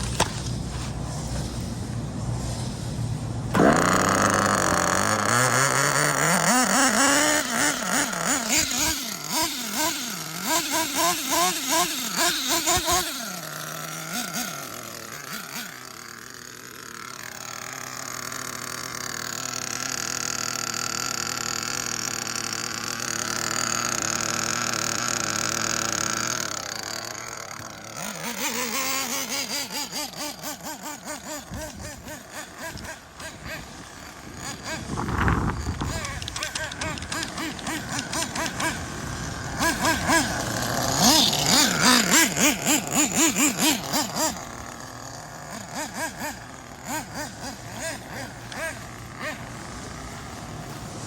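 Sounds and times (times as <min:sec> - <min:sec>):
small nitro engine revving: 0:00.0 - 0:51.0.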